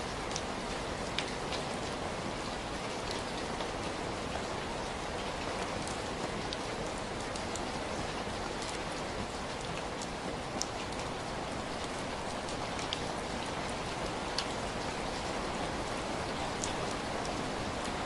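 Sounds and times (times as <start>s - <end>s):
raindrops ticking on a surface: 0.0s - 18.0s.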